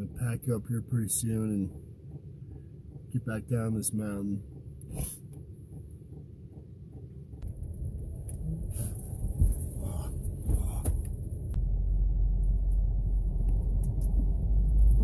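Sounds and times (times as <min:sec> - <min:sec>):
suv engine rumble: 0:00.0 - 0:15.0.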